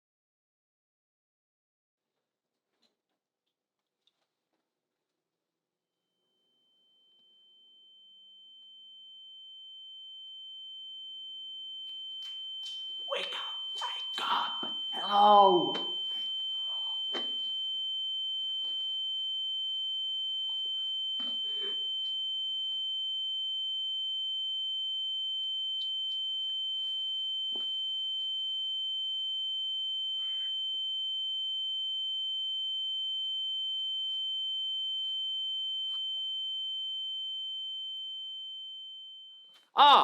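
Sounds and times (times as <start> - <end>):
high-pitched ringing tone: 6.2 - 40.0.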